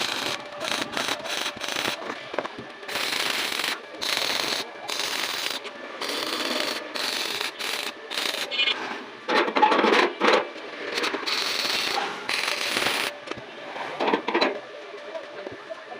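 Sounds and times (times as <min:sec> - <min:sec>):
metal crackling and scraping: 0:00.0 - 0:14.6.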